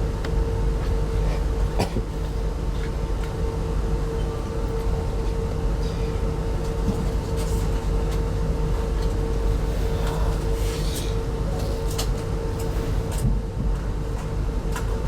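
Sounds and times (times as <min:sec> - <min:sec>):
train rumble inside a coach: 0:00.0 - 0:15.0.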